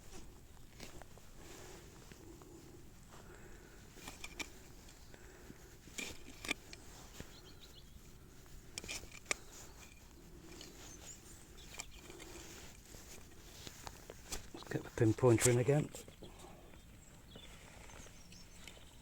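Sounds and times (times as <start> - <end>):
hand digging in soil: 0.0 - 15.9.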